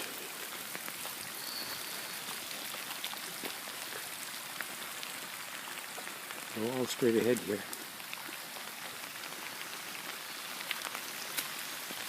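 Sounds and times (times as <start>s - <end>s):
heavy rain hissing: 0.0s - 12.0s
raindrop hits: 0.0s - 12.0s.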